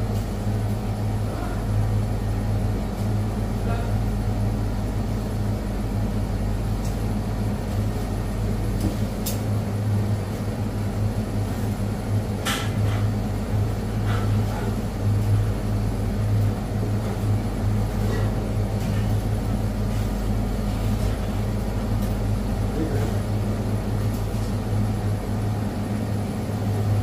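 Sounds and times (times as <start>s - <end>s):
kitchen mechanical hum: 0.0s - 27.0s.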